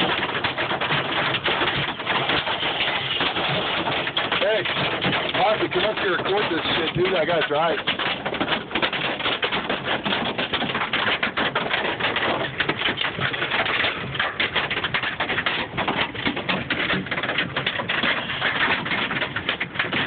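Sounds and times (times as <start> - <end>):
hail pelting a car: 0.0 - 20.0.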